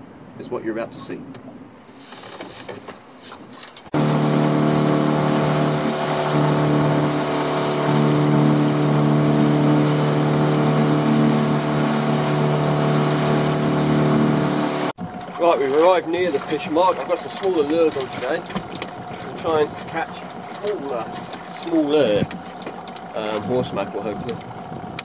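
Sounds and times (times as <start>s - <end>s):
boat engine humming: 0.0s - 25.0s
water rushing along hull: 3.9s - 25.0s.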